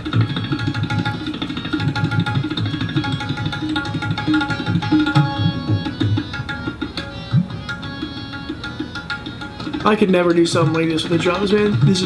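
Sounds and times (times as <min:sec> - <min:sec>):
fast tabla strokes: 0:00.0 - 0:12.0.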